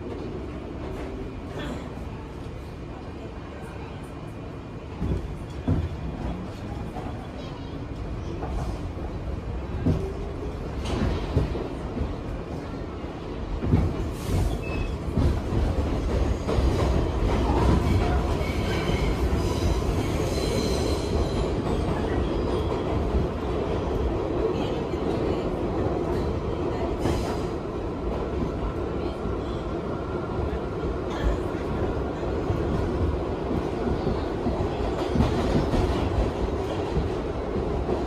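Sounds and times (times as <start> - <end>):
subway wheels rumbling on rail: 0.0 - 38.0.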